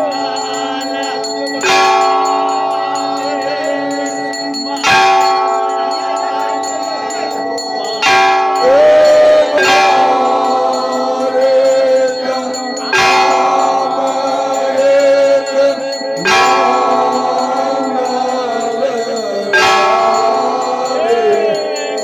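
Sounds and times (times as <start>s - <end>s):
large bell ringing: 0.0s - 22.0s
people singing: 0.0s - 22.0s.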